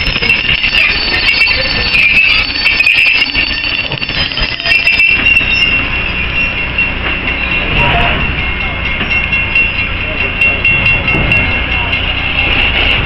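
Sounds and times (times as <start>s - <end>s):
train rumble: 0.0s - 13.0s
train wheel squeal: 0.0s - 13.0s.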